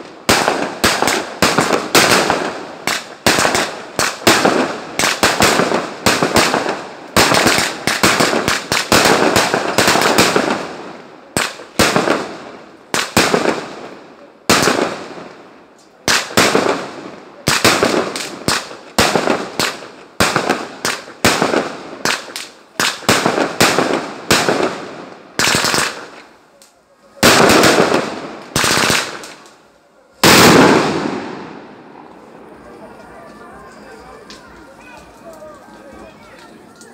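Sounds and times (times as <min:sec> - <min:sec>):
fireworks bursting: 0:00.0 - 0:36.9.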